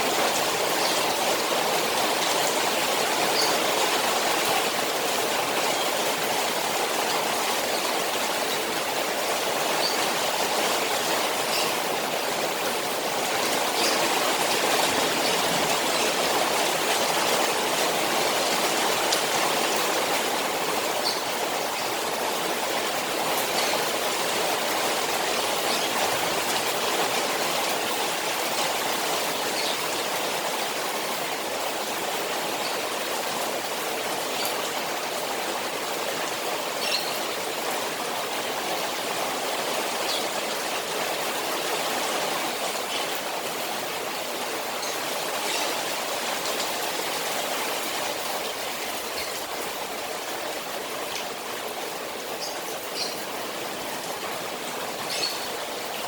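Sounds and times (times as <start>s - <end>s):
rain falling on a pond: 0.0s - 56.0s.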